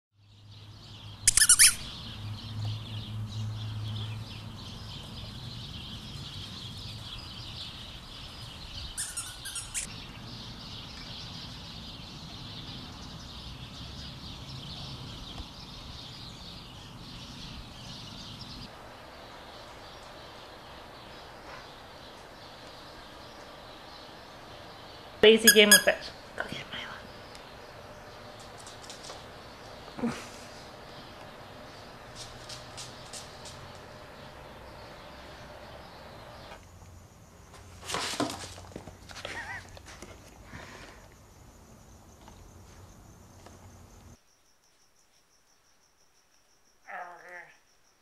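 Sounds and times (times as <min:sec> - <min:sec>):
birds chirping: 0:00.2 - 0:44.2.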